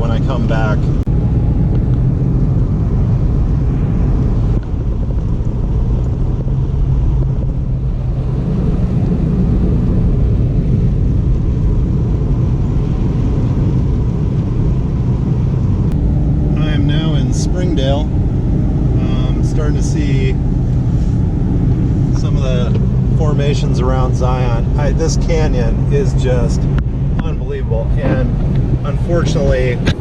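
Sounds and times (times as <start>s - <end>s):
car cabin road and engine hum: 0.0s - 30.0s.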